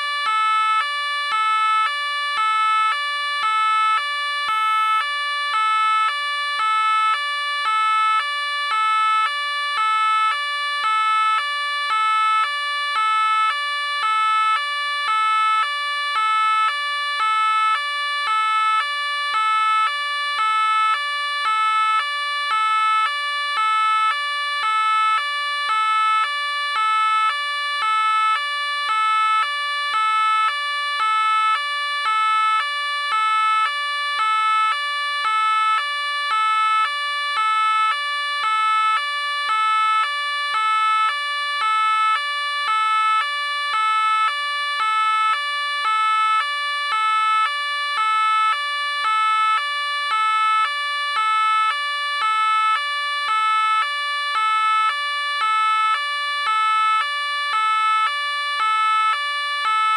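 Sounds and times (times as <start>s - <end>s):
police siren two-tone: 0.0s - 59.9s.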